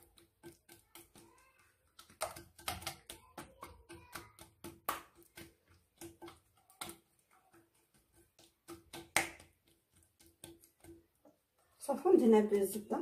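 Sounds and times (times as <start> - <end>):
hands slapping dough: 0.0 - 11.4.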